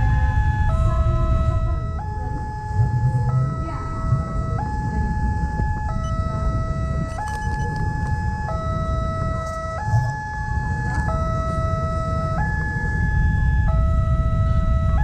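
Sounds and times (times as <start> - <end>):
low rumble: 0.0 - 15.0
two-tone electronic warning alarm: 0.0 - 15.0.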